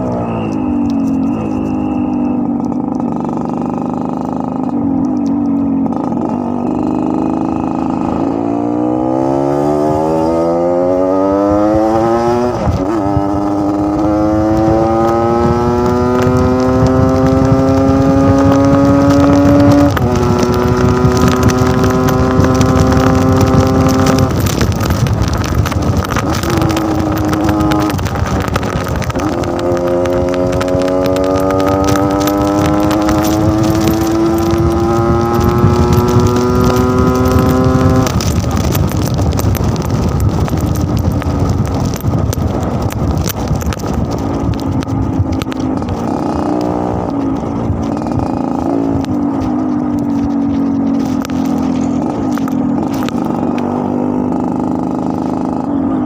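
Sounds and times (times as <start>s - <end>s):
two-stroke motorcycle engine running: 0.0s - 56.0s.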